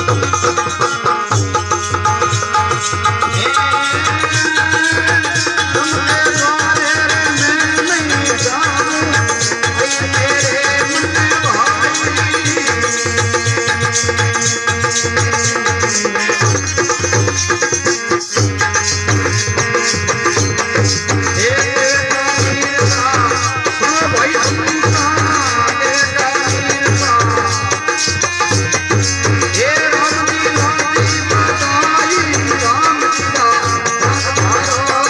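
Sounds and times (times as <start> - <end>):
repeating drum beat: 0.0 - 35.0.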